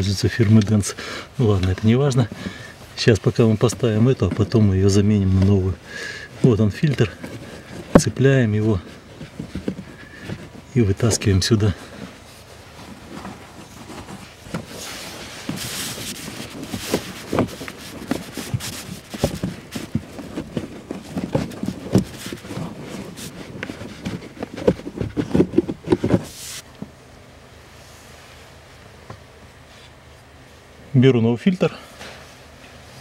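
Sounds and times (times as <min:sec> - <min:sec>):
rustling of filter and fabric: 0:00.0 - 0:30.8.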